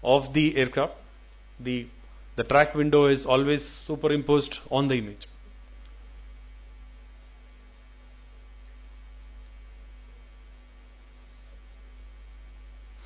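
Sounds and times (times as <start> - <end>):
electrical mains hum: 0.0 - 13.0
faint background hiss: 0.0 - 13.0.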